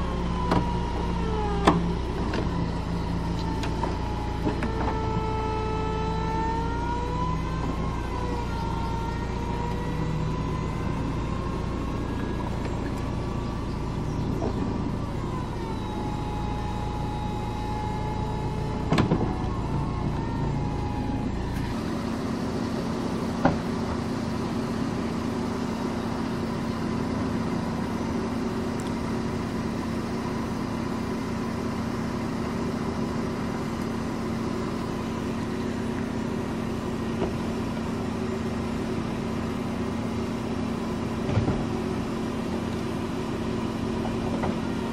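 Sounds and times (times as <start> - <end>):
roof motor whining: 0.0 - 44.9.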